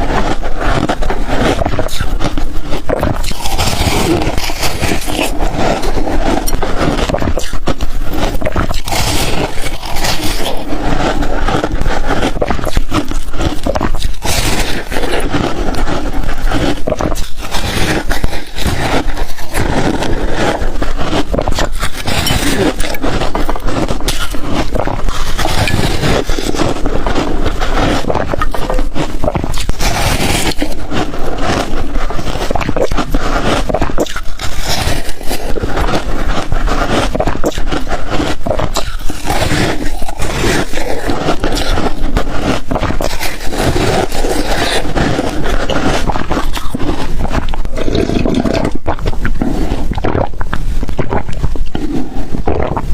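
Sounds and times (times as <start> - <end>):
ice crunching in mouth: 0.0 - 52.9.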